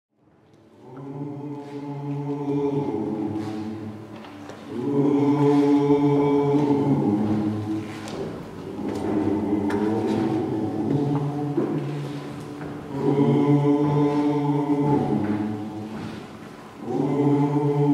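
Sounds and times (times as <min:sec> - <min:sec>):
choir singing in harmony: 0:00.8 - 0:17.9.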